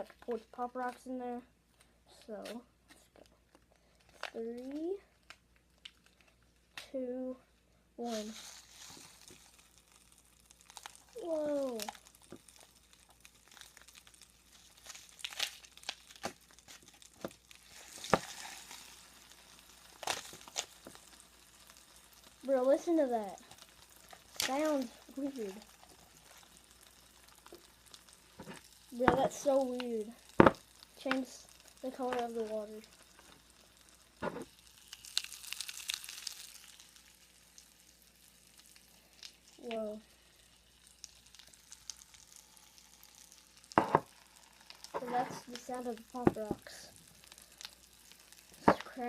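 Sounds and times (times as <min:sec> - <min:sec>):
candy popping in water: 0:08.0 - 0:49.0.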